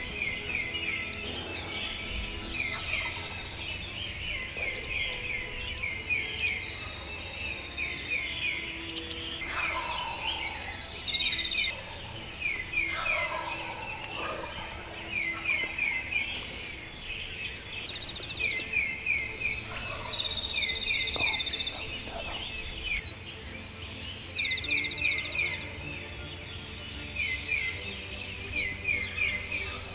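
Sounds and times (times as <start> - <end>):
turkeys gobbling: 0.0 - 23.6, 27.2 - 29.9
birds chirping: 0.0 - 29.9
high dry bird trill: 0.0 - 29.9.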